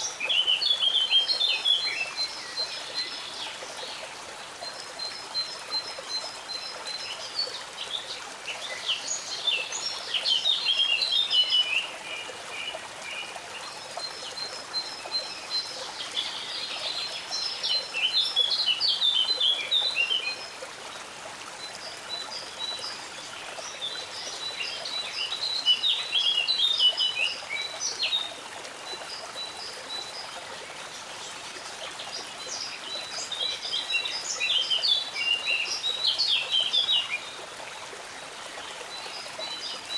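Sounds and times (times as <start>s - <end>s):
songbird singing: 0.0s - 20.6s, 21.6s - 37.4s
stream trickling: 0.0s - 39.9s.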